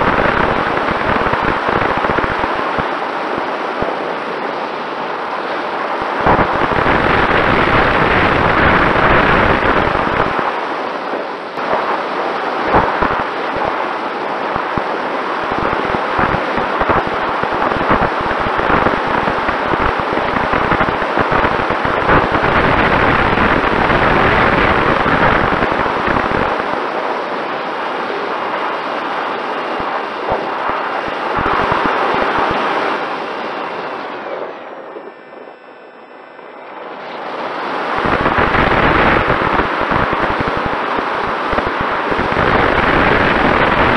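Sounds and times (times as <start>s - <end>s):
airflow buffeting microphone: 0.0s - 43.9s.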